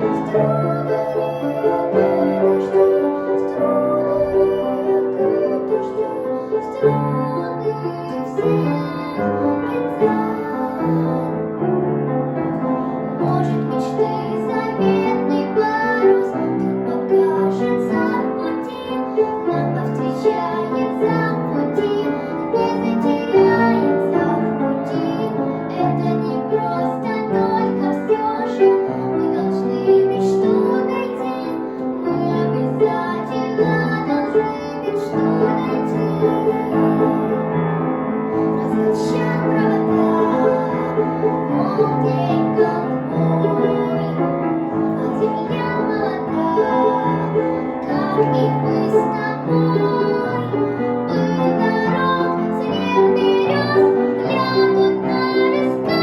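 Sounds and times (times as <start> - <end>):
girl singing: 0.0 - 56.0
piano accompaniment: 0.0 - 56.0.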